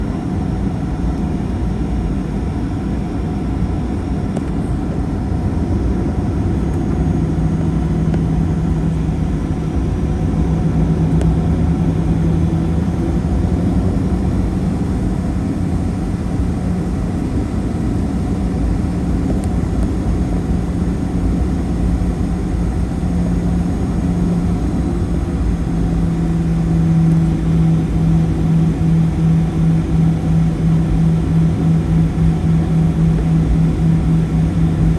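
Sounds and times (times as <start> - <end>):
aircraft cabin engine rumble: 0.0 - 34.9
pulsing hum: 5.1 - 34.9.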